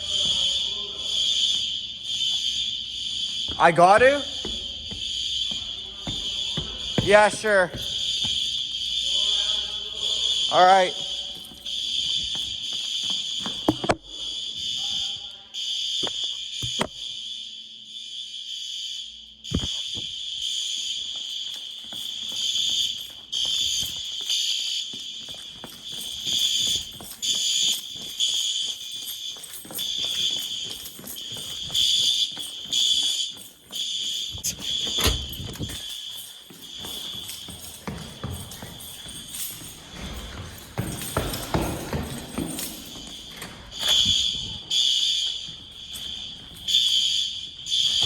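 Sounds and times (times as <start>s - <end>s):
fire alarm bells ringing: 0.0s - 48.0s.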